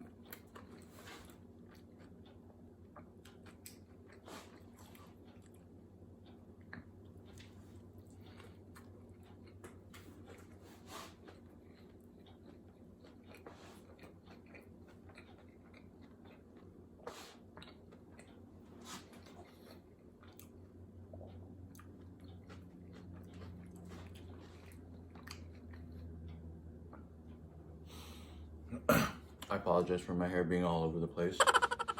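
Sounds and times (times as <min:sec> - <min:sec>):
crunches of chewing: 0:00.0 - 0:27.1
person chewing food: 0:00.0 - 0:28.3
low steady hum: 0:00.0 - 0:31.9.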